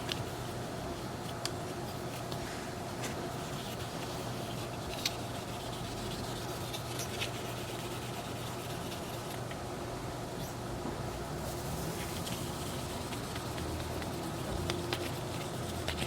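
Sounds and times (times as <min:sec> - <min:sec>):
polishing pad scratching plastic: 0:00.0 - 0:02.4, 0:03.0 - 0:09.4, 0:11.3 - 0:16.0
constant low hum: 0:00.0 - 0:16.0.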